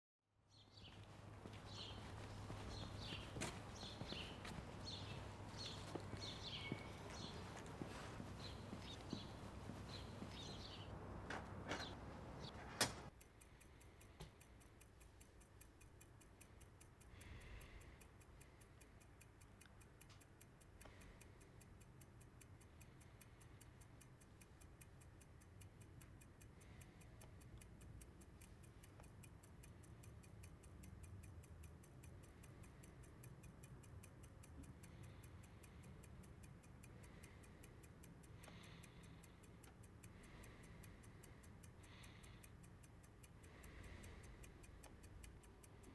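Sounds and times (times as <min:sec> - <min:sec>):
steady ticking: 0:00.5 - 0:45.9.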